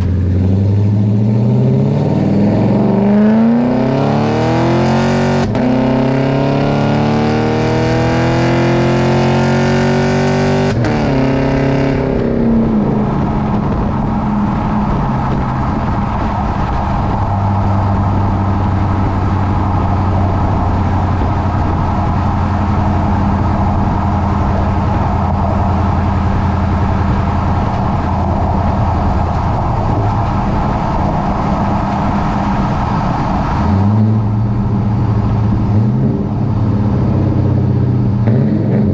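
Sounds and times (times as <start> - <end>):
truck exhaust accelerating: 0.0 - 38.9.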